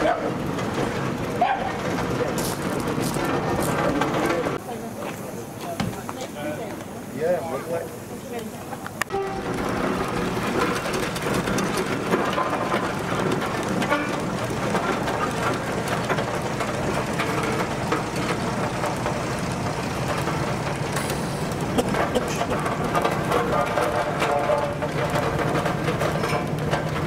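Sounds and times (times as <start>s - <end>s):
iron rolls crunching on gravel: 0.0s - 27.0s
steam engine working: 0.0s - 27.0s.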